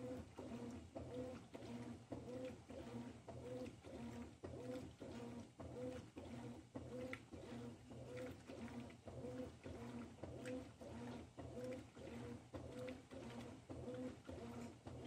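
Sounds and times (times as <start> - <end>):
washing machine agitating: 0.0 - 15.0.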